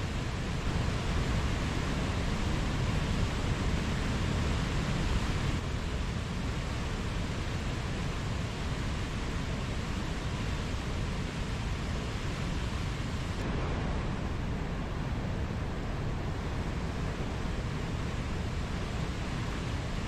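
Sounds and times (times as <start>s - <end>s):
mountain stream running: 0.0s - 20.0s.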